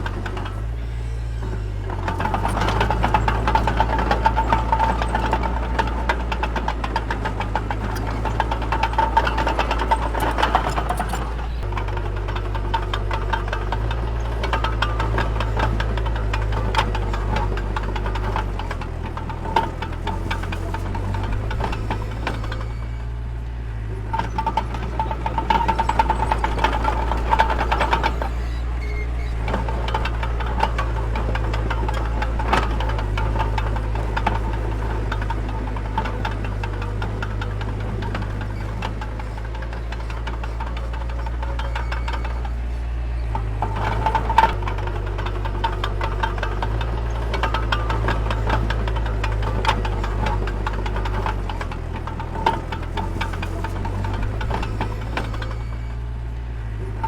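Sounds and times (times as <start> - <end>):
heavy machine engine running: 0.0 - 57.0
metallic rattling clatter: 0.0 - 57.0.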